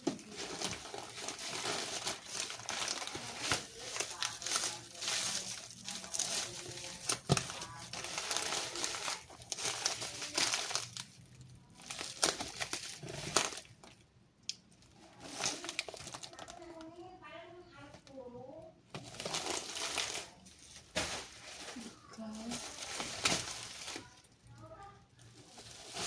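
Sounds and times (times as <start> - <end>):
packaging crinkling and rustling: 0.0 - 14.0, 14.8 - 17.0, 18.9 - 26.0.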